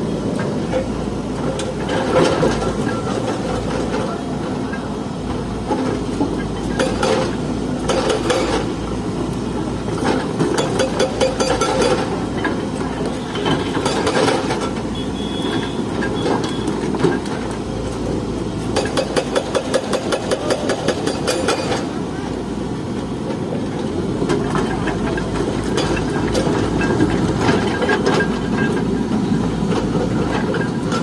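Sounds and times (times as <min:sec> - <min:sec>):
machinery rumbling: 0:00.0 - 0:31.0.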